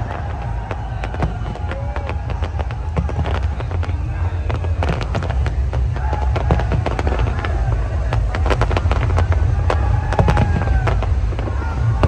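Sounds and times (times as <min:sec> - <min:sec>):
fireworks bangs and crackles: 0:00.0 - 0:12.0
low rumble: 0:00.0 - 0:12.0.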